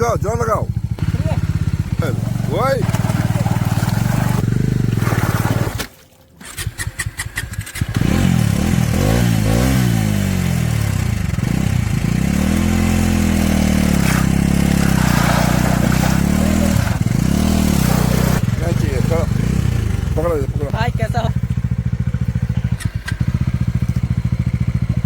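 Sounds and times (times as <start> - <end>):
motorcycle engine sputtering and revving: 0.0 - 5.8, 6.4 - 25.0.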